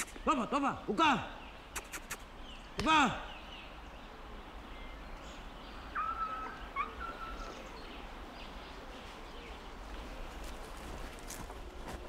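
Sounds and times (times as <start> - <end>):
outdoor ambience: 0.0 - 12.0.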